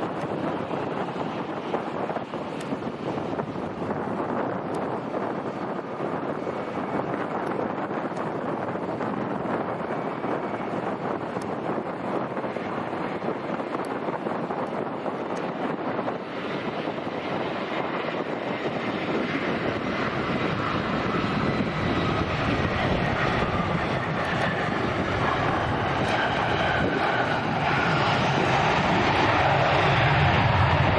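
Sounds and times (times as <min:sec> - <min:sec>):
jet engines roaring: 0:00.0 - 0:30.9.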